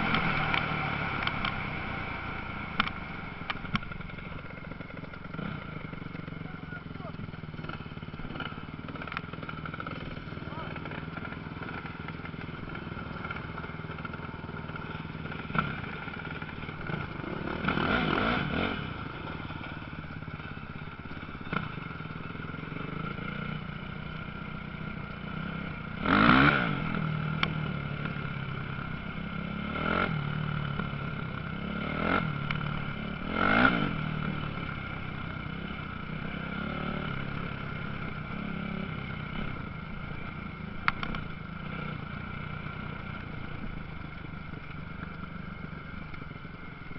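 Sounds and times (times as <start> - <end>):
background drone of engines: 0.0 - 46.9
motocross motorcycles passing: 0.0 - 46.9.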